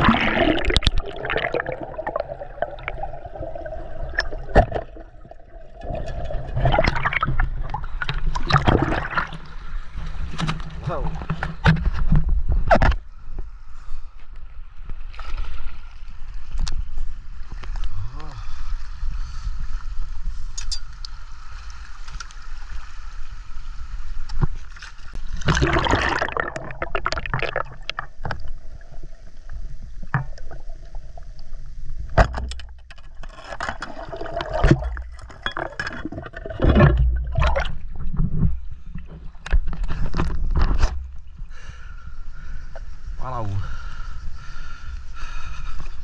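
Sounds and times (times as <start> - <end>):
water sloshing and gurgling: 0.0 - 46.0.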